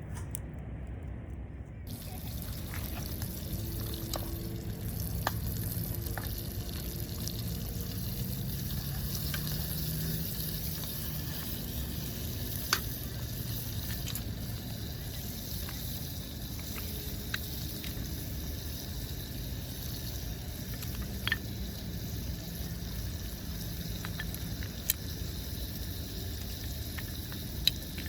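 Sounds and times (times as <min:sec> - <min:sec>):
fire pops and crackles: 0:00.0 - 0:28.0
campfire hissing: 0:01.9 - 0:28.0.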